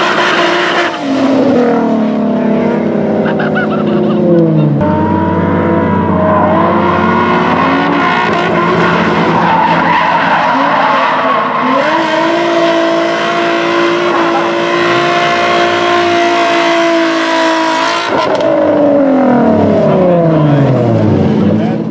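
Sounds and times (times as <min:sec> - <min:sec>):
car engine revving high: 0:00.0 - 0:21.9.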